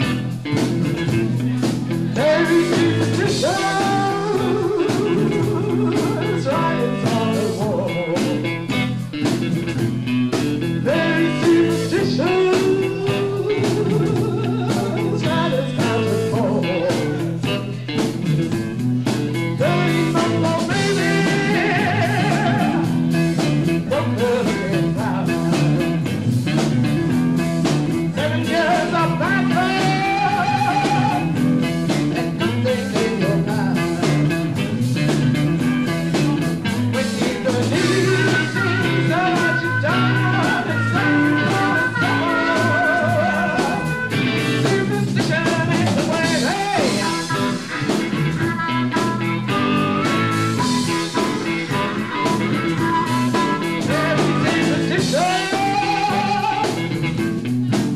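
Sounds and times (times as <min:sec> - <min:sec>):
bending electric guitar lead: 0:00.0 - 0:57.9
blues band playing: 0:00.0 - 0:57.9.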